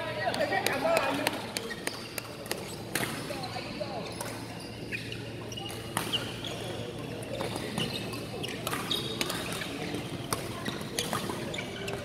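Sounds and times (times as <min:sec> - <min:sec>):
shoes squeaking on court: 0:01.6 - 0:12.0.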